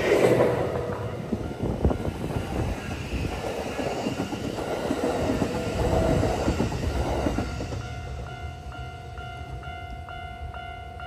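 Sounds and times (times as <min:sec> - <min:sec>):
electric train passing: 0:00.0 - 0:11.0.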